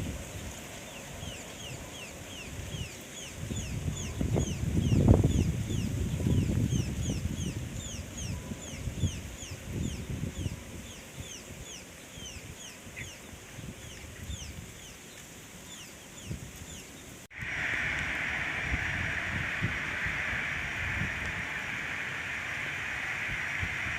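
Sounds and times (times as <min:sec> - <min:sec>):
wind rumbling on microphone: 0:00.0 - 0:15.0, 0:16.1 - 0:23.9
steady high hiss: 0:00.0 - 0:23.9
bird chirping: 0:00.8 - 0:23.9.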